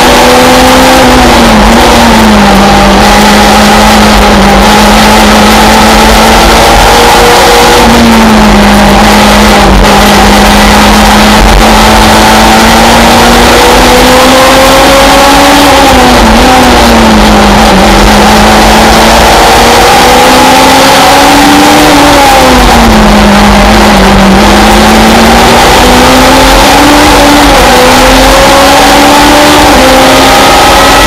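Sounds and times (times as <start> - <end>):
race car engine at high revs: 0.0 - 31.0.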